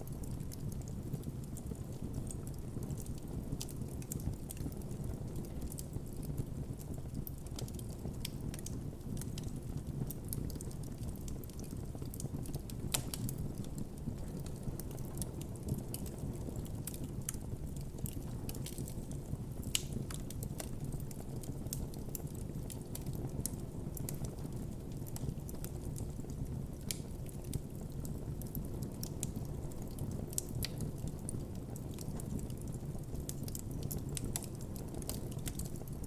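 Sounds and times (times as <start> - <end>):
burning wood crackling and popping: 0.0 - 36.0
campfire flames rumbling: 0.0 - 36.0.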